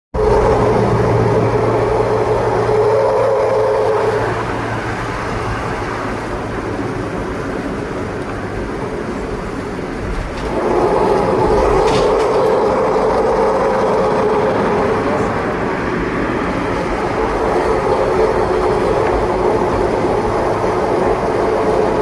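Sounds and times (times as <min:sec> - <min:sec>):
van engine growling: 0:00.1 - 0:22.0.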